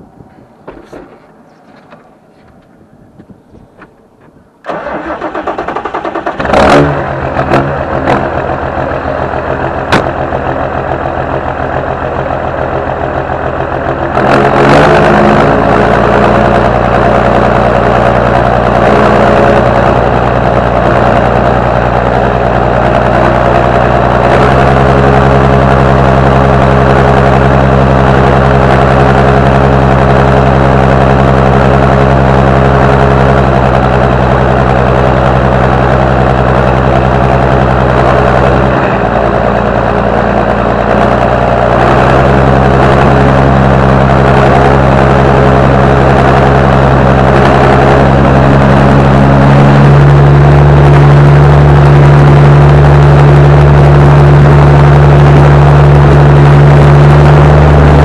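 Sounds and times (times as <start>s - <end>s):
engine starting and running: 3.2s - 58.0s.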